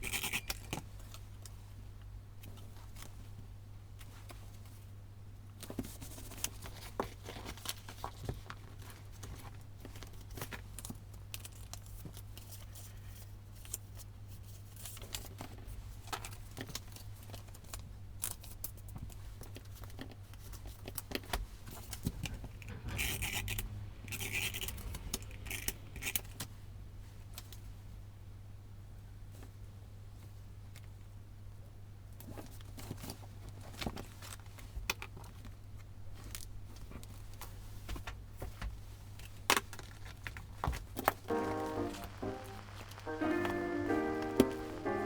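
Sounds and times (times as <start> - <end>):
low electrical hum: 0.0 - 45.0.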